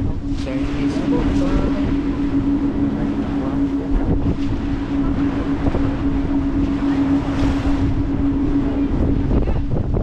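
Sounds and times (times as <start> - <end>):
ferry engine drone: 0.0 - 10.0
water noise: 0.0 - 10.0
wind buffeting microphone: 0.0 - 10.0.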